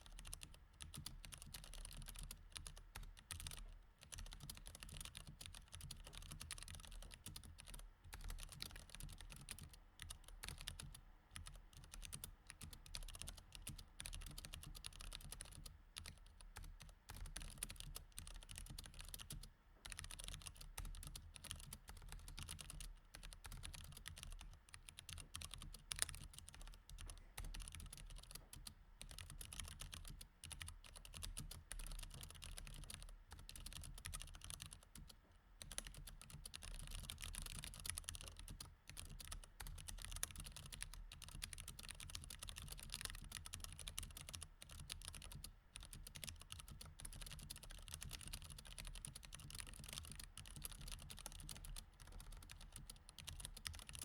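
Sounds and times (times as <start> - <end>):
typing on mechanical keyboard: 0.1 - 54.0.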